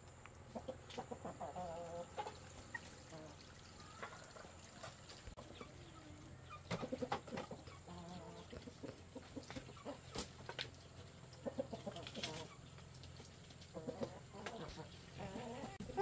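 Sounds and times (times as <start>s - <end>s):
chickens clucking: 0.1s - 16.0s.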